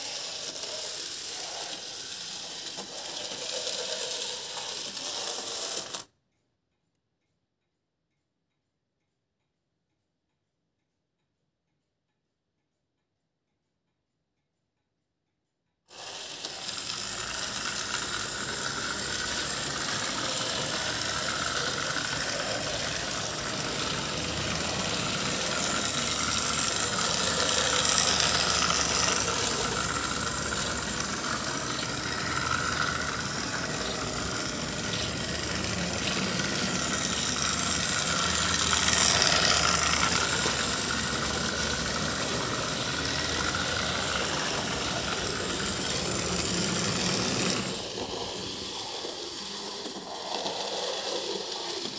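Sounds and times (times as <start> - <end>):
model bus motor whirring: 0.0 - 6.1, 15.9 - 51.9.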